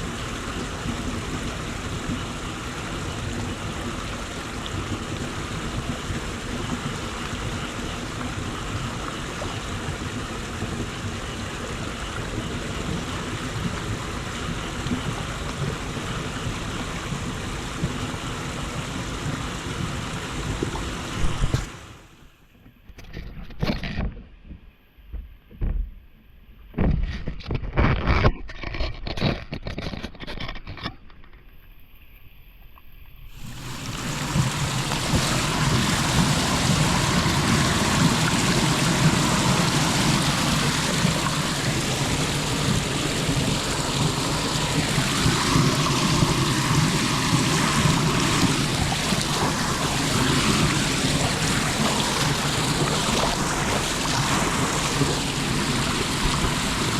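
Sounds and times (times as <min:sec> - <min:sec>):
water rushing into drain: 0:00.0 - 0:22.1, 0:33.3 - 0:56.9.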